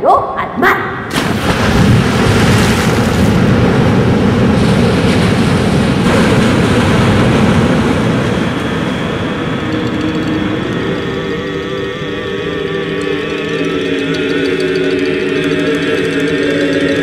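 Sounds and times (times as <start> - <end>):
rushing roar of dense noise: 1.1 - 17.0.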